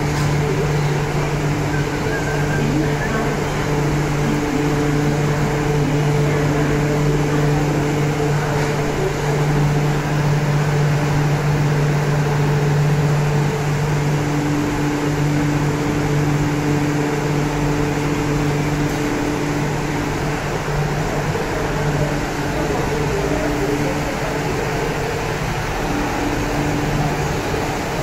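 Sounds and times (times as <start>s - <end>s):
train equipment low drone: 0.0s - 28.0s.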